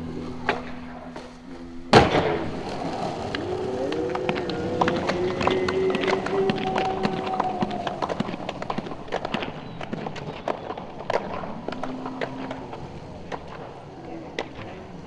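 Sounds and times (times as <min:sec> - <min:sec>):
skateboard clatter: 0:00.1 - 0:15.0.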